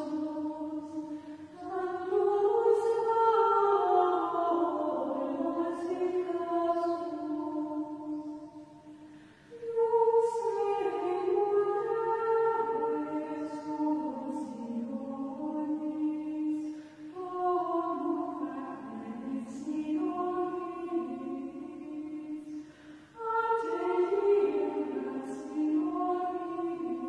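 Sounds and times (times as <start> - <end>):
women singing chant in unison: 0.0 - 27.0.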